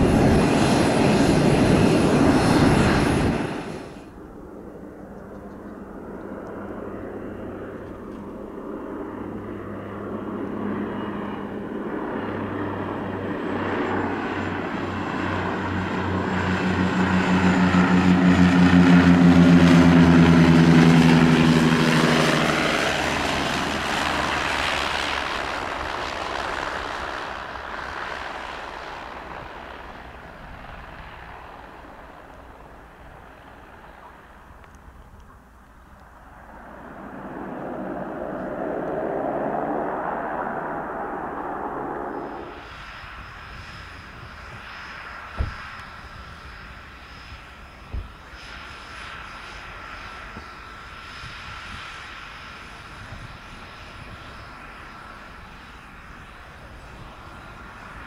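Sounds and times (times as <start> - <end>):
turboprop propeller drone: 0.0 - 58.0.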